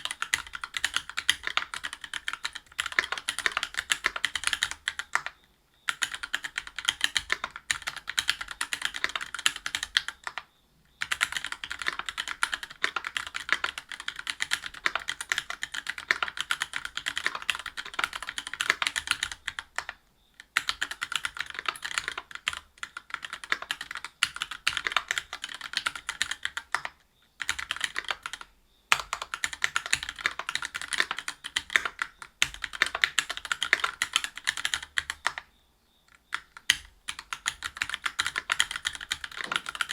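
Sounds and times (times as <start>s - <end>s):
mechanical keyboard typing: 0.0s - 35.5s, 36.1s - 39.9s.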